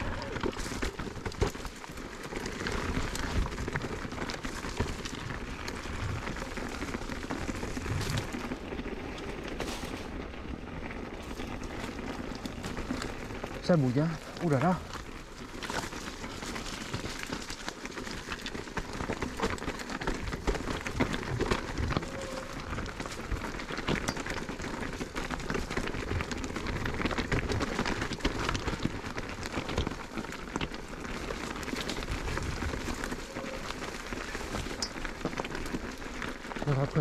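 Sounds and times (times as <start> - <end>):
bike tyres rattling over stones: 0.0 - 37.0.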